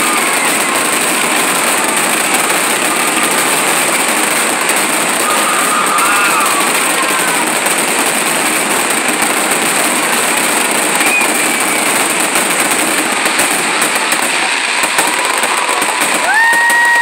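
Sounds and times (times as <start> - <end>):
fireworks crackling and bursting: 0.0 - 17.0.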